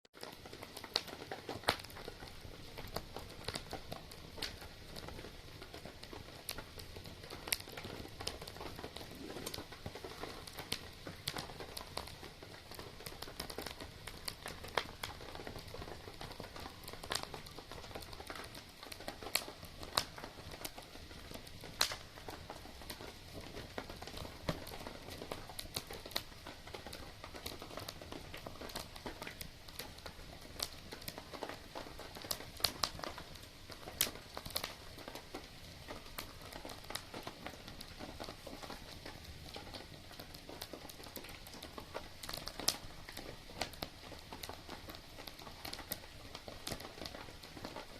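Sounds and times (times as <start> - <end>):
campfire crackling: 0.2 - 47.9.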